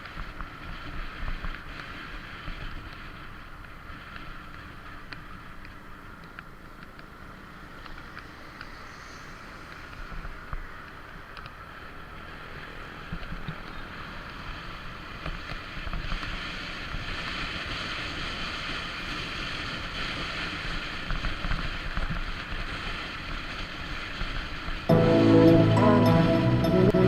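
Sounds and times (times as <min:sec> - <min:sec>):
motorcycle engine and road noise: 0:00.0 - 0:24.9.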